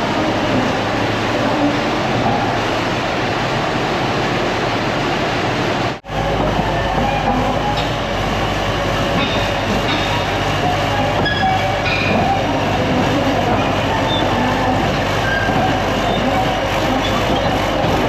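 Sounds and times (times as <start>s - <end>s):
diesel engine running: 0.0s - 18.0s
steel tracks clattering: 0.0s - 18.0s.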